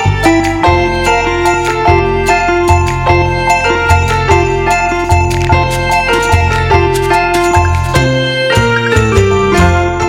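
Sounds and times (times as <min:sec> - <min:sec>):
light tune with chiming bells: 0:00.0 - 0:10.0
steady bass: 0:00.0 - 0:10.0.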